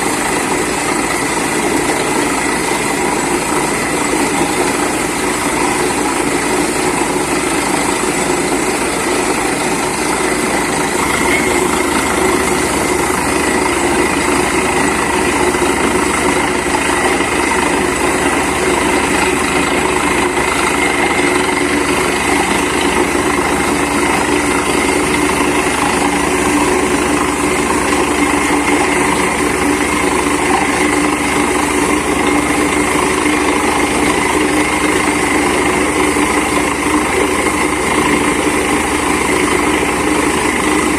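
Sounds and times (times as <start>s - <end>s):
drilling rig machinery humming: 0.0s - 40.9s.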